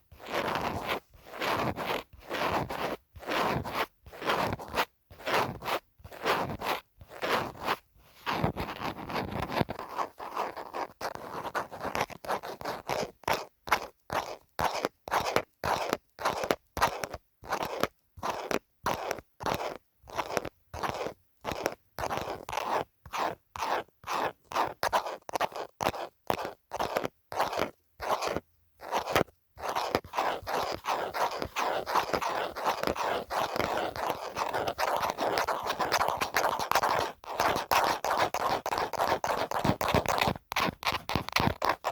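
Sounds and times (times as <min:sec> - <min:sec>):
scratching on a phone case: 0:00.1 - 0:41.9.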